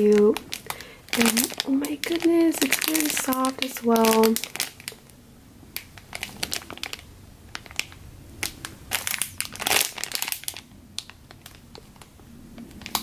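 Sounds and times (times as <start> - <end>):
plastic bag crinkling: 0.0 - 5.2, 5.8 - 13.0.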